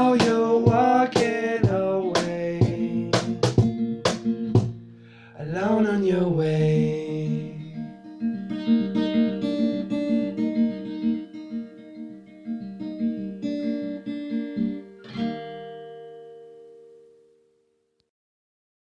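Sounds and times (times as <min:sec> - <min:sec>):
guitar strummed chord ringing: 0:00.0 - 0:05.3, 0:07.4 - 0:17.8
acoustic guitar picking notes: 0:00.0 - 0:17.7.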